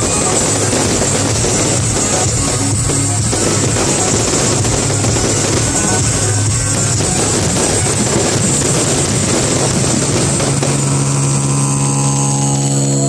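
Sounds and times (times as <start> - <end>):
loud music with drums: 0.0 - 11.5
fireworks crackling: 0.0 - 13.0.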